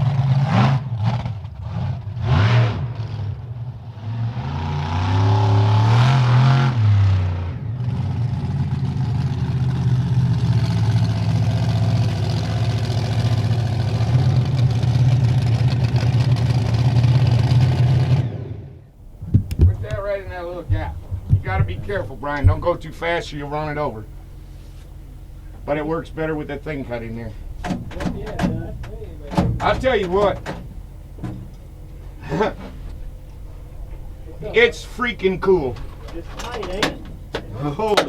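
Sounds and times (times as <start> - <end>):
monster truck engine revving: 0.0 - 38.0.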